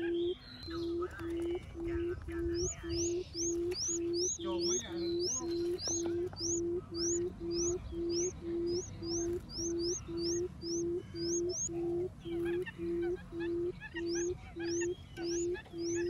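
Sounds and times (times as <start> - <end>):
bird's low booming hoot: 0.0 - 16.0
high rising bird chirps: 0.0 - 16.0.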